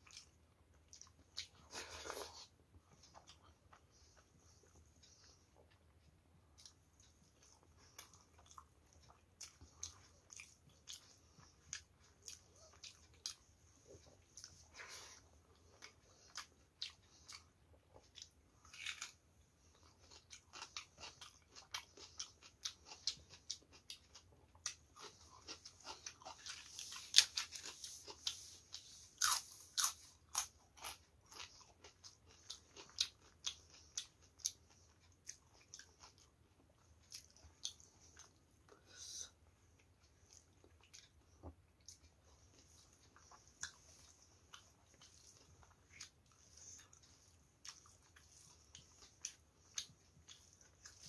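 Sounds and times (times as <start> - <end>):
person chewing crunchy food: 0.0 - 51.0.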